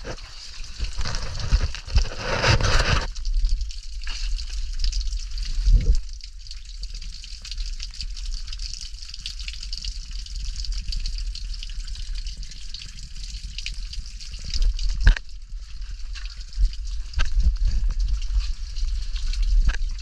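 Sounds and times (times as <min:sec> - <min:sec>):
water dripping onto wet rock: 0:00.0 - 0:20.0.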